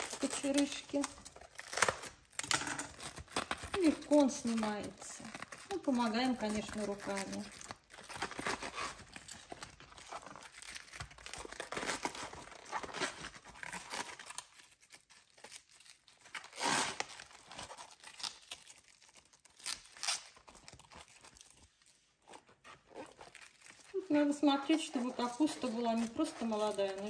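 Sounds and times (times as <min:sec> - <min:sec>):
cabbage leaves tearing and crinkling: 0:00.0 - 0:27.0.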